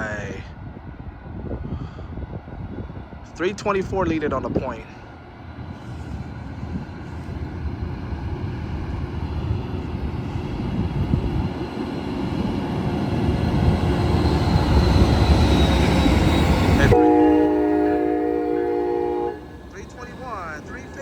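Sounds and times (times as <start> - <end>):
locomotive engine and wheels rumble: 0.0 - 21.0.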